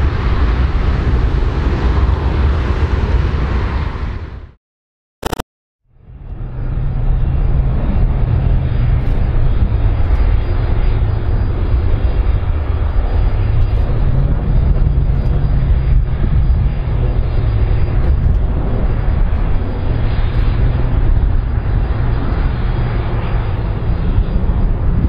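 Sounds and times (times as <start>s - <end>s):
jet engines rumbling: 0.0s - 4.6s, 6.0s - 25.0s.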